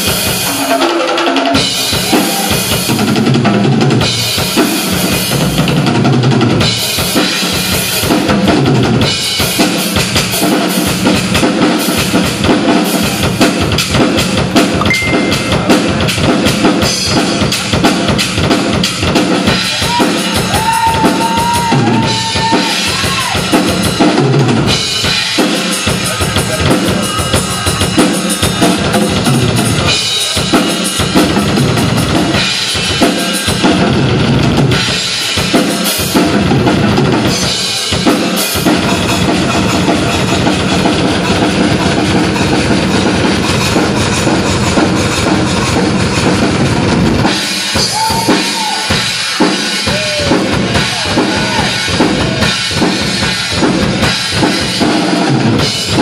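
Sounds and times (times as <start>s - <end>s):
drum kit solo: 0.0s - 56.0s.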